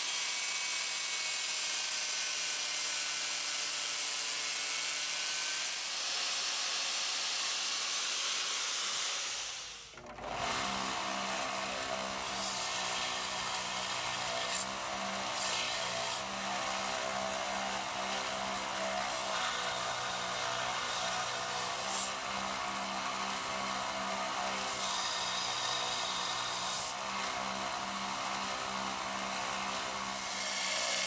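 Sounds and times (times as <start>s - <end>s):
power sander grinding metal: 0.0s - 31.0s.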